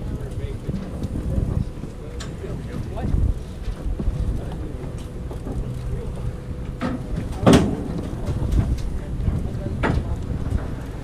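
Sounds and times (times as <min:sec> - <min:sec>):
boat engine low hum: 0:00.0 - 0:11.0
wind buffeting microphone: 0:00.0 - 0:11.0.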